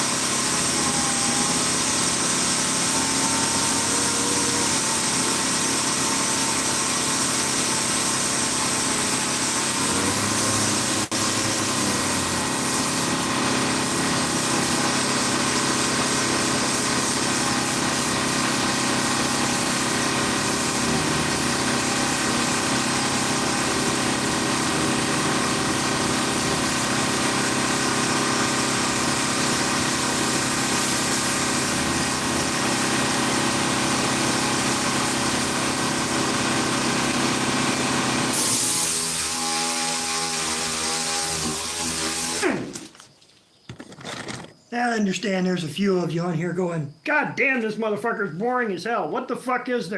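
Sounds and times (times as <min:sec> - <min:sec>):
power sander sanding: 0:00.0 - 0:43.0.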